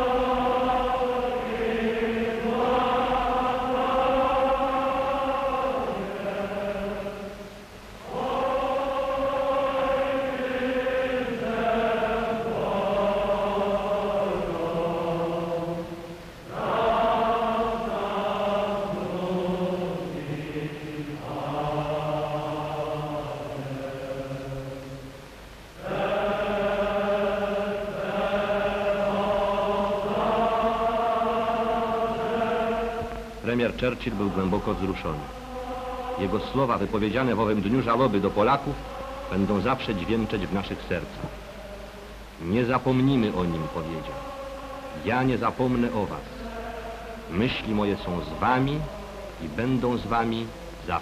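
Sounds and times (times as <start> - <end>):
choir singing a slow chant: 0.0 - 51.0.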